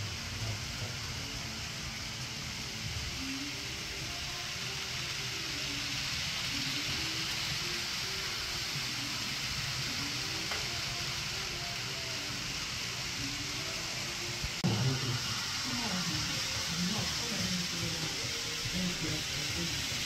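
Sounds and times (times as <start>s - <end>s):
model trains whirring: 0.0s - 20.0s.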